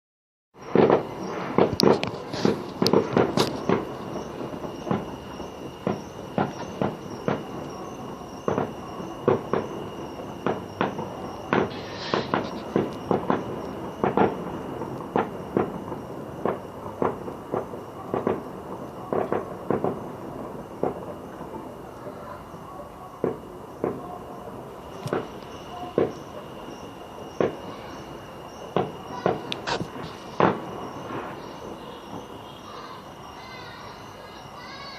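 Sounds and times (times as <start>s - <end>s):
fireworks shells bursting: 0.6s - 22.2s, 23.2s - 34.9s.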